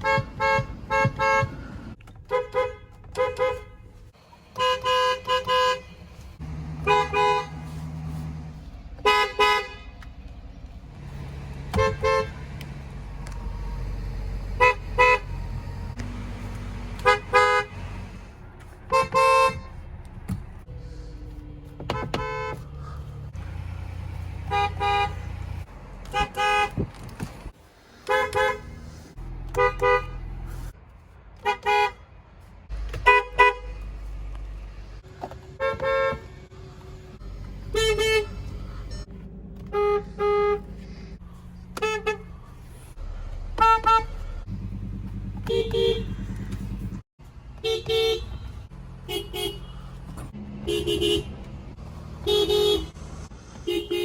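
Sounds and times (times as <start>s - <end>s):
car horns honking: 0.0s - 10.2s, 11.0s - 21.2s, 21.8s - 30.7s, 31.4s - 32.0s, 32.7s - 47.0s, 47.6s - 54.0s.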